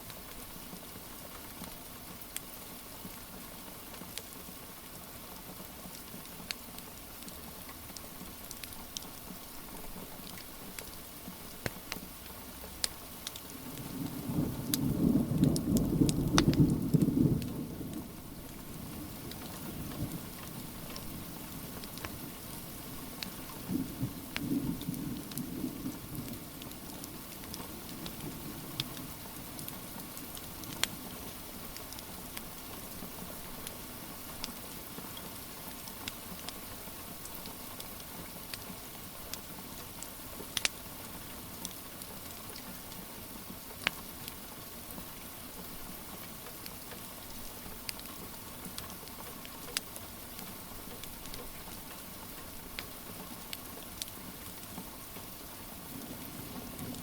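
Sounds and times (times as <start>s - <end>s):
steady rain falling: 0.0s - 57.0s
wood fire crackling: 5.9s - 57.0s.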